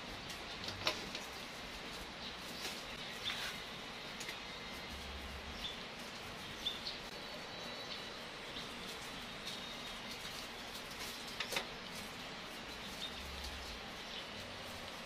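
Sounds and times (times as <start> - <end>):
outdoor background hiss: 0.0 - 15.0
small birds chirping: 0.2 - 15.0.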